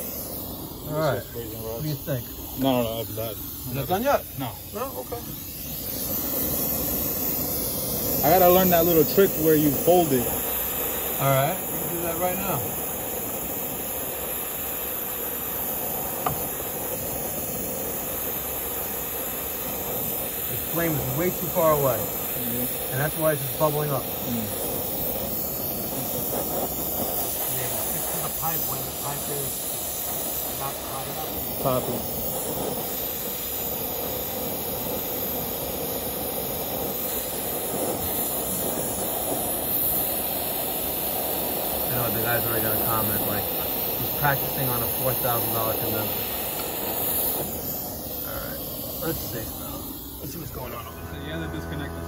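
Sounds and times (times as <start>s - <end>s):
torch flame hissing: 0.0s - 52.0s.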